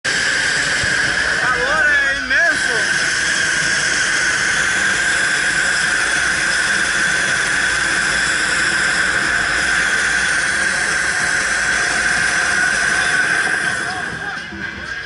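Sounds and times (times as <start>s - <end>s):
propane burner hissing: 0.0s - 15.0s.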